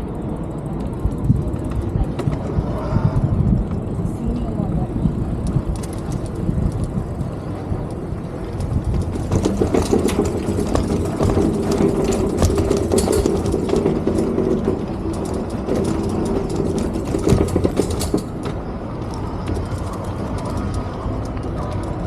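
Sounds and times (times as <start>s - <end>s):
rail vehicle humming: 0.0s - 22.0s
rapid clicking from wheels: 0.0s - 22.0s.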